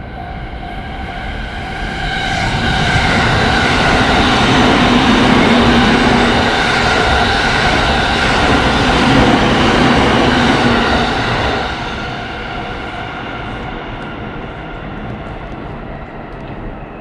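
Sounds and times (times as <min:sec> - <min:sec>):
train running past: 0:00.0 - 0:17.0.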